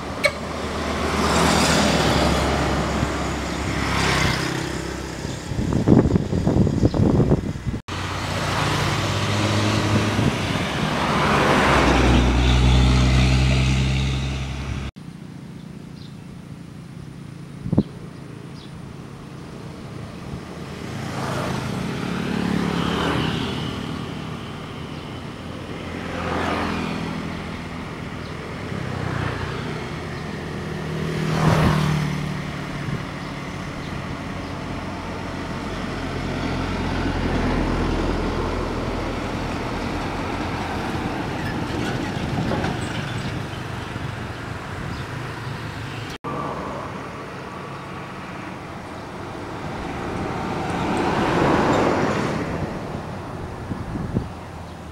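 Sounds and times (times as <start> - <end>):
diesel trucks passing: 0.0 - 54.9
motorcycles passing: 0.0 - 54.9.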